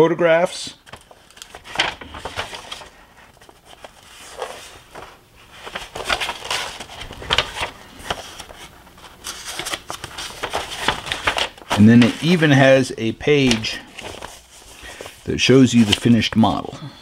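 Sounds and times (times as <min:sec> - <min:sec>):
paper sheets rustling: 0:00.8 - 0:16.6.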